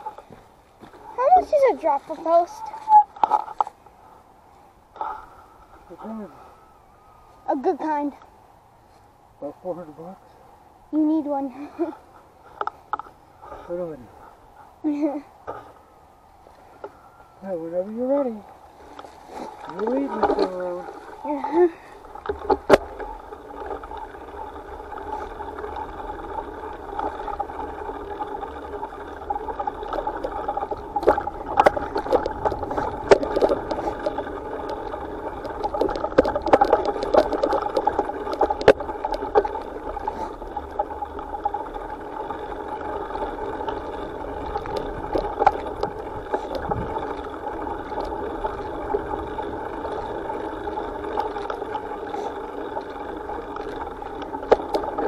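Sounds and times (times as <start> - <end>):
bicycle rattles and clicks: 0.0 - 3.9, 11.0 - 15.8, 16.4 - 55.0
bicycle rolling on dirt: 0.0 - 55.0.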